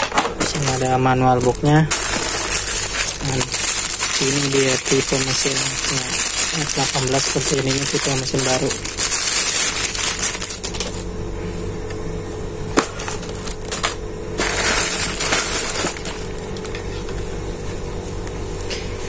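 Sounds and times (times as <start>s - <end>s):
plastic bags rustling: 0.0s - 11.1s, 12.8s - 16.9s
steady low hum: 0.0s - 19.0s.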